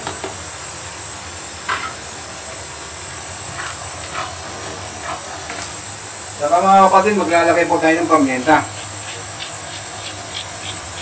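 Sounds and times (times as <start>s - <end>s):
meat sizzling in a pan: 0.4s - 11.0s.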